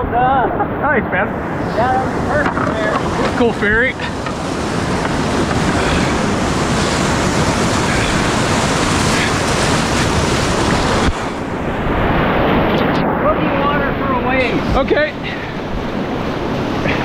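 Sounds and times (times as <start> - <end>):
river rapid roaring: 0.0 - 17.0.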